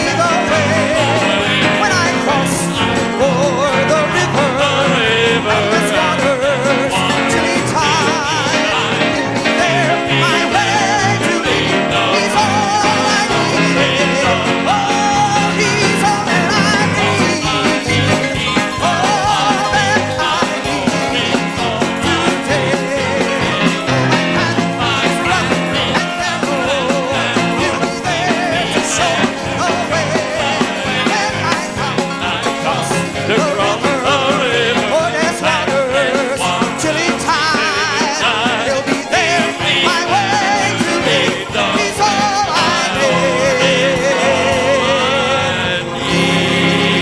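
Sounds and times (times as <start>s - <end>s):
gospel band music: 0.0s - 47.0s.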